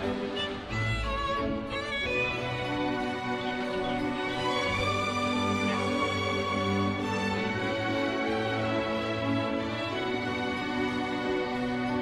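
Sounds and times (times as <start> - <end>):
slow orchestral string chords: 0.0 - 12.0.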